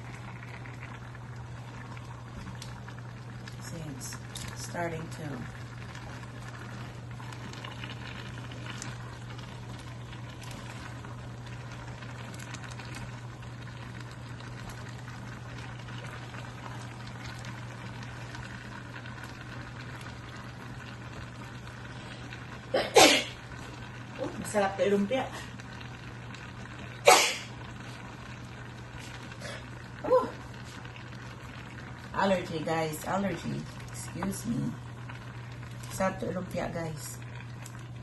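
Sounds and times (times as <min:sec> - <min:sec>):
vegetables sizzling in a pan: 0:00.0 - 0:38.0.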